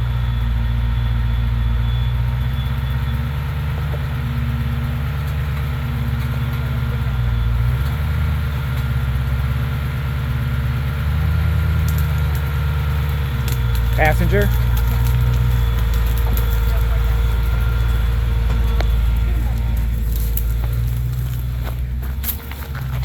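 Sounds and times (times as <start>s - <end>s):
truck engine running at low revs: 0.0s - 23.0s.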